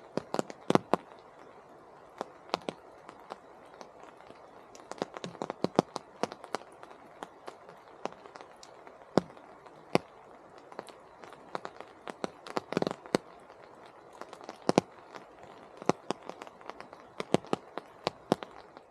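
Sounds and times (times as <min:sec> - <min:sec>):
raindrops tapping: 0:00.0 - 0:18.9
soft rain hiss: 0:00.0 - 0:18.9.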